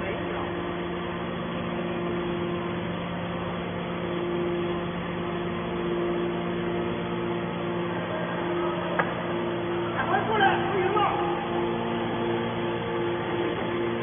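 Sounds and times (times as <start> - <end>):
hydraulic motor and pump humming: 0.0 - 14.0.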